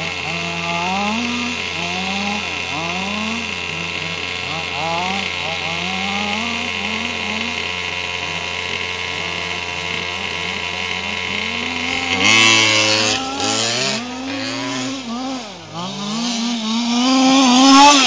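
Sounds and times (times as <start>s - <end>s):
two-stroke engine revving: 0.0s - 18.0s.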